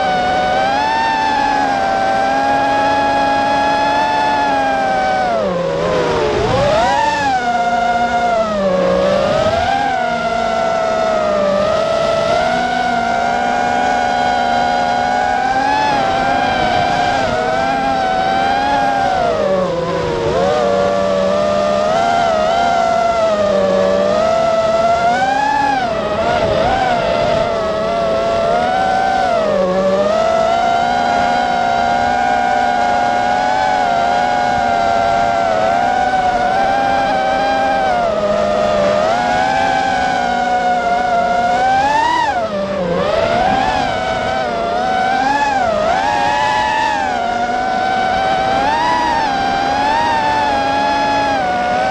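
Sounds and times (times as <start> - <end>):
drone motors whining: 0.0 - 51.9.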